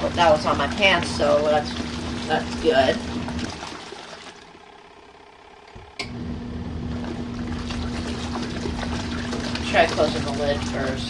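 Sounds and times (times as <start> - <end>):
water churning: 0.0 - 5.1, 6.3 - 11.0
washing machine motor hum: 0.0 - 11.0.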